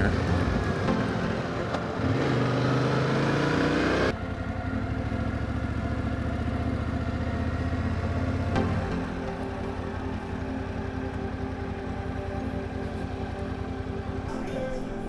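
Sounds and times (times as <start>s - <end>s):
motorcycle engine accelerating: 0.0s - 14.4s.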